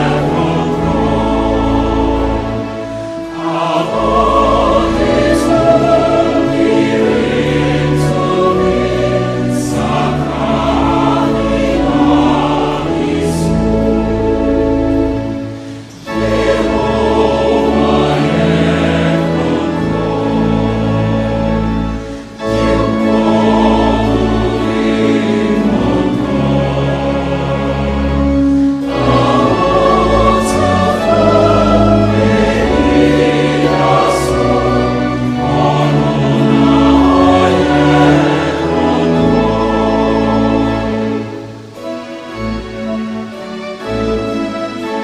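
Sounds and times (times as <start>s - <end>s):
choir singing held notes: 0.0s - 45.0s.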